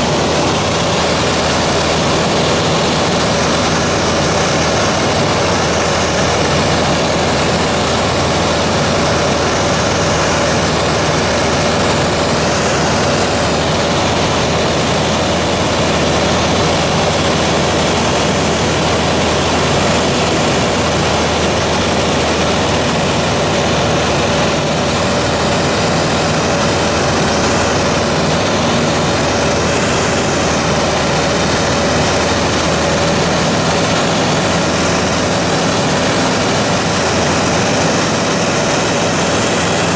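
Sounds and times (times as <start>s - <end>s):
aircraft engine drone: 0.0s - 39.9s
rushing air: 0.0s - 39.9s.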